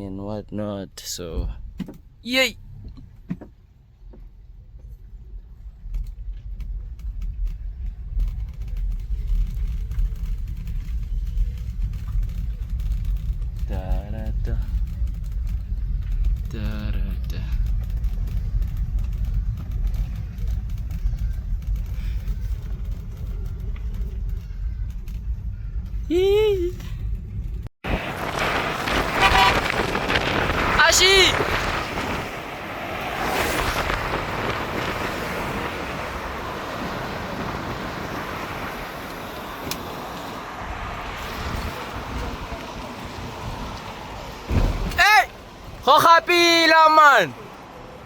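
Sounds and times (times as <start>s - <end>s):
vehicle road and wind noise: 0.0s - 48.0s.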